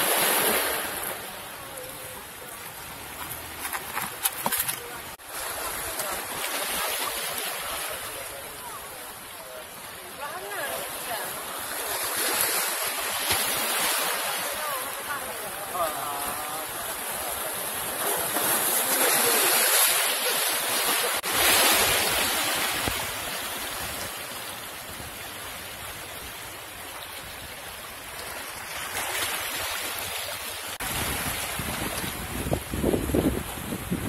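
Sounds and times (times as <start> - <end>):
sea waves breaking on rocks: 0.0 - 34.0.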